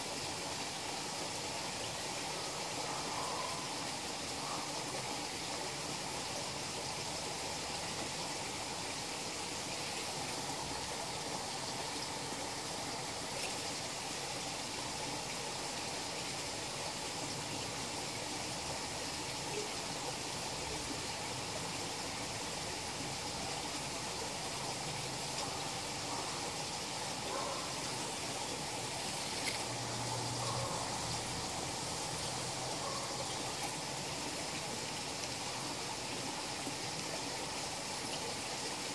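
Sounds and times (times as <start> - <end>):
water rushing and trickling: 0.0 - 38.9.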